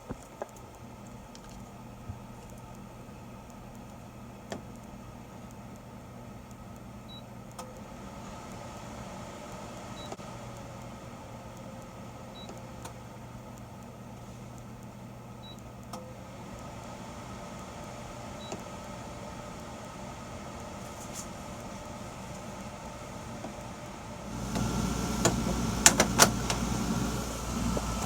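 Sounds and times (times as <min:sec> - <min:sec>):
air conditioner humming: 0:00.0 - 0:28.0.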